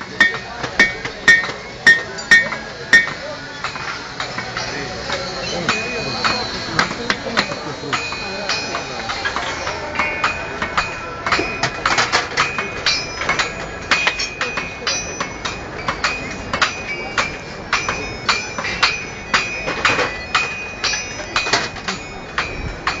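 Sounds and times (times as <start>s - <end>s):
hammers striking metal on anvils: 0.0s - 23.0s.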